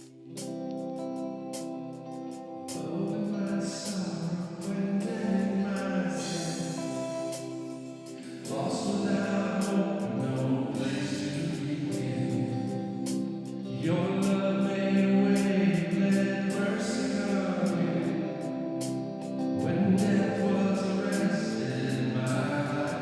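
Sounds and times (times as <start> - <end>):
cymbal ticks: 0.0 - 23.0
live worship band music: 0.0 - 23.0.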